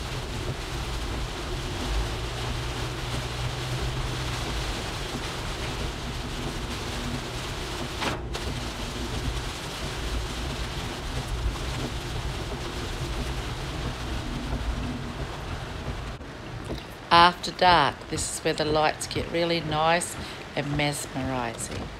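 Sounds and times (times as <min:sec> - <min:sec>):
low road rumble: 0:00.0 - 0:21.9
rain on car windscreen: 0:00.0 - 0:21.9
tyres hissing on wet road: 0:00.0 - 0:21.9.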